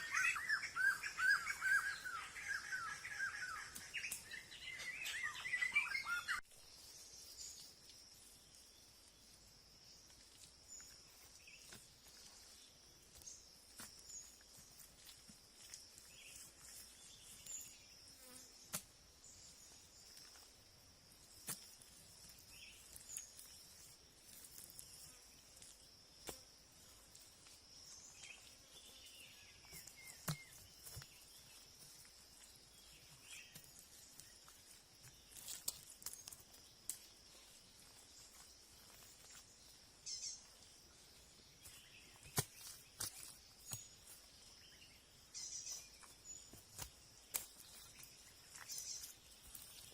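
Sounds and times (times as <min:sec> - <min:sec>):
insects chirring: 0:00.0 - 0:49.9.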